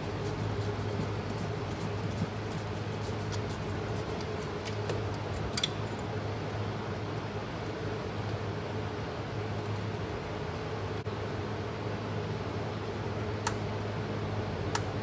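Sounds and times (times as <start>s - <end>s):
steady low machine hum: 0.0s - 15.0s.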